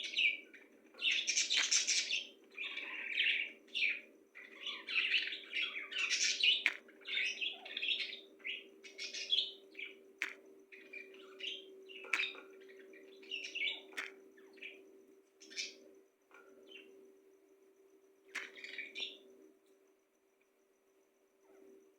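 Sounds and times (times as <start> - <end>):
birds chirping: 0.0 - 17.0, 18.3 - 19.4
faint steady hum: 0.0 - 21.9.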